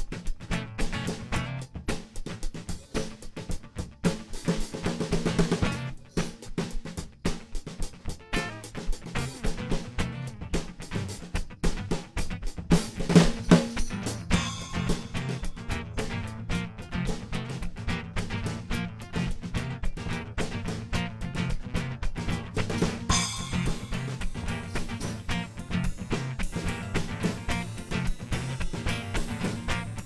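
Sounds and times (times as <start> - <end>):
drums playing busy beat: 0.0 - 30.0
guitar: 0.0 - 30.0.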